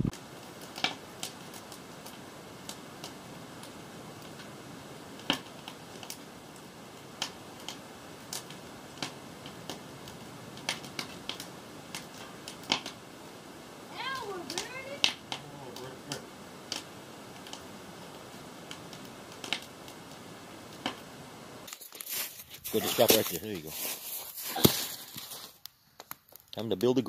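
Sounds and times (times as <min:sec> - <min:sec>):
faint steady hiss: 0:00.0 - 0:27.0
fire popping: 0:00.0 - 0:27.0
wood fire crackling: 0:00.0 - 0:27.0.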